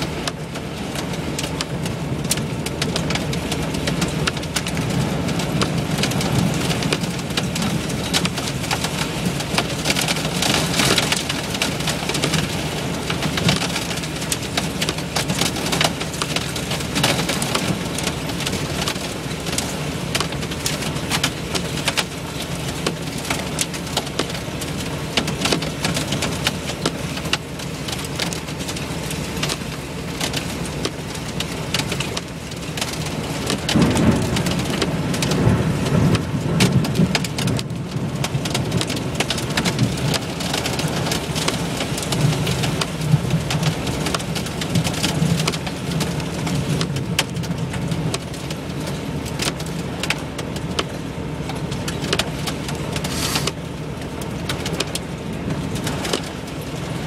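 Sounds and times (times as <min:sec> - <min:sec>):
hail and rain on vehicle roof: 0:00.0 - 0:57.0.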